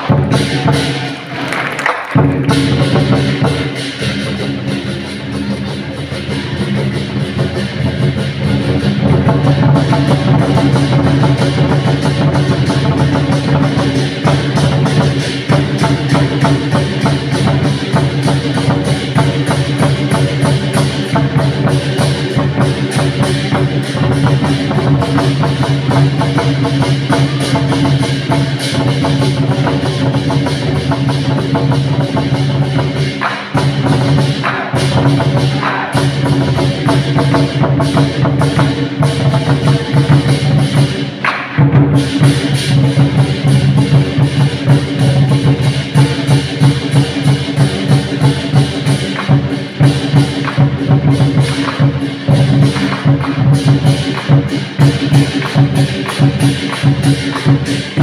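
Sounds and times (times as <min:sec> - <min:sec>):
drums beating fast rhythm: 0:00.0 - 0:58.0.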